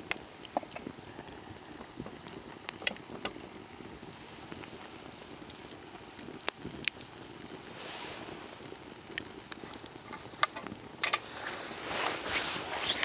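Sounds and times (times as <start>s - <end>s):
fire hiss: 0.0s - 13.0s
wood fire crackling: 0.0s - 13.0s.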